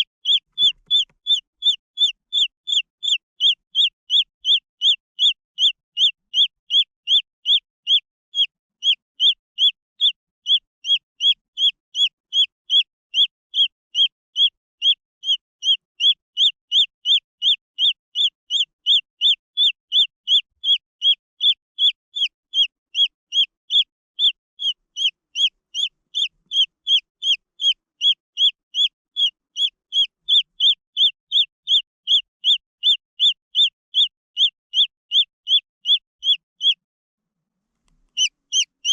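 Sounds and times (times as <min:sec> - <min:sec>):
chick peeping: 0:00.0 - 0:36.8, 0:37.9 - 0:38.9.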